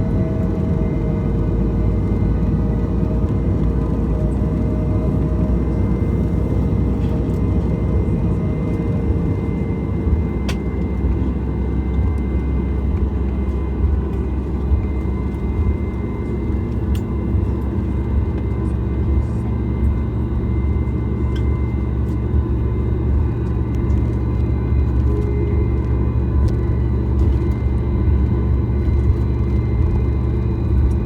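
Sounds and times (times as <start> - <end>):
jet engine rumble: 0.0 - 31.0.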